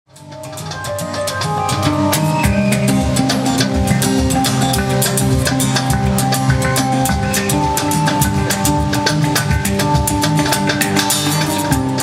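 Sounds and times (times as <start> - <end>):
drum kit beat: 0.1 - 12.0
held melody notes: 0.1 - 12.0
bass line: 0.2 - 12.0.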